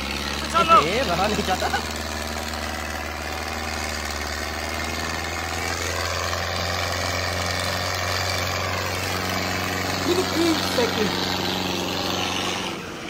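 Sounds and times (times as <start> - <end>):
tractor engines droning: 0.0 - 13.0.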